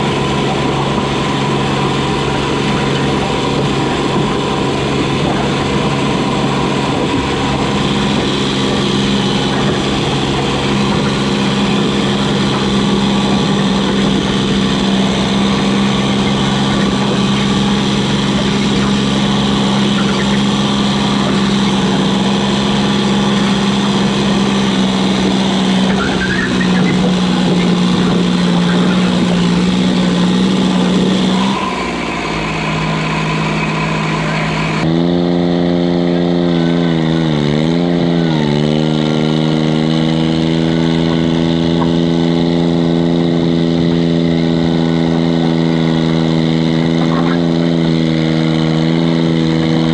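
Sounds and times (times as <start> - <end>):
diesel tractor engine: 0.0 - 49.9.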